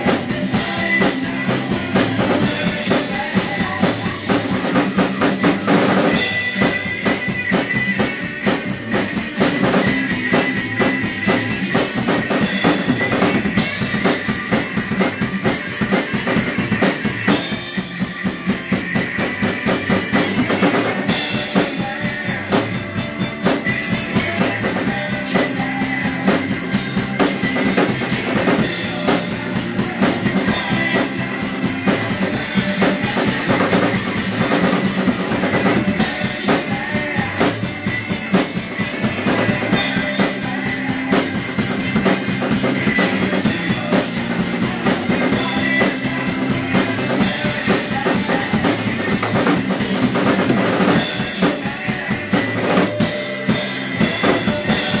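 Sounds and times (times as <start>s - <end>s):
drum kit playing rock beat: 0.0s - 55.0s
rock band recording: 0.0s - 55.0s.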